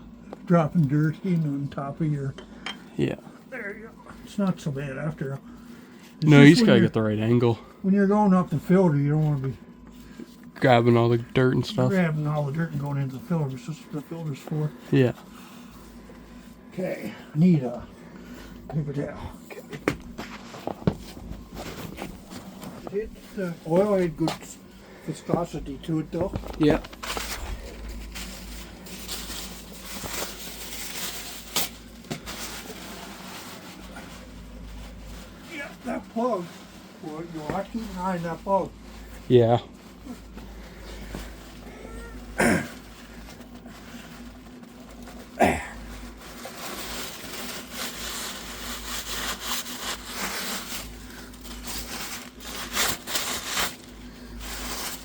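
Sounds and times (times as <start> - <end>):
rustling crinkling handling noise: 0.1 - 55.0.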